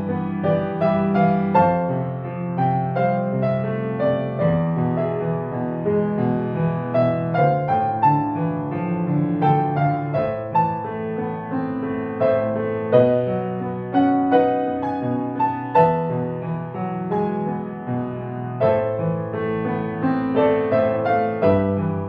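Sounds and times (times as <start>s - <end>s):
grand piano playing: 0.0s - 22.0s.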